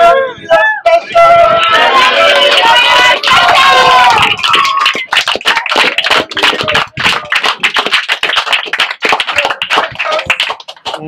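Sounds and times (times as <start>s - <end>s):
people clapping: 1.1s - 11.0s.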